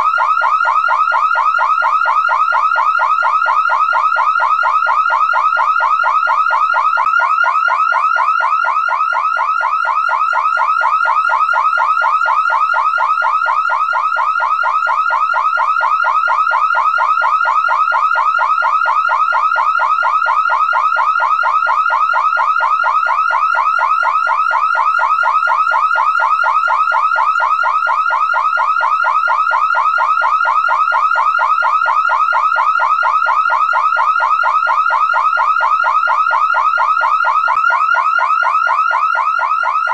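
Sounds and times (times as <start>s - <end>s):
car alarm siren whooping: 0.0s - 39.9s.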